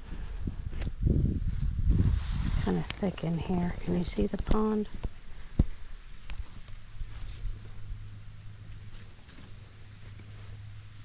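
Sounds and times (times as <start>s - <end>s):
faint rustles: 0.0s - 11.0s
insects chirping: 0.2s - 11.0s.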